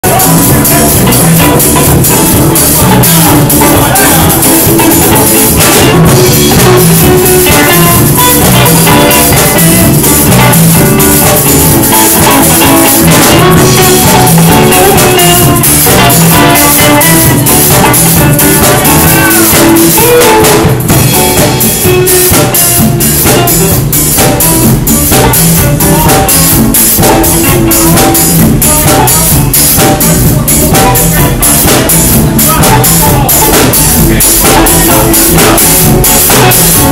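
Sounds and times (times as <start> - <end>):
drums keeping steady beat: 0.0 - 36.9
live band playing groove: 0.0 - 36.9.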